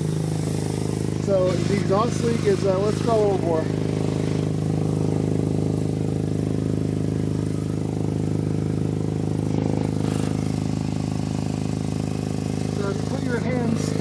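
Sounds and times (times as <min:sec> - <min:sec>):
car engine idling: 0:00.0 - 0:14.0
exhaust leak hissing: 0:00.0 - 0:14.0.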